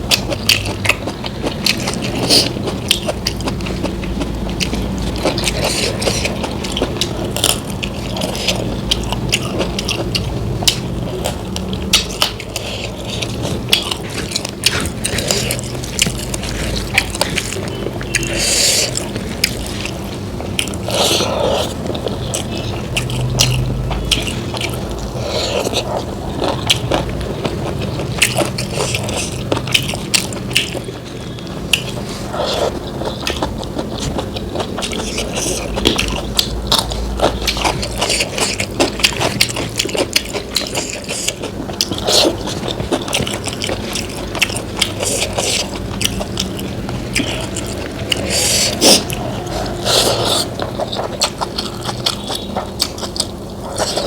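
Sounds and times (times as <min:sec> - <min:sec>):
food being bitten and chewed: 0:00.0 - 0:54.0.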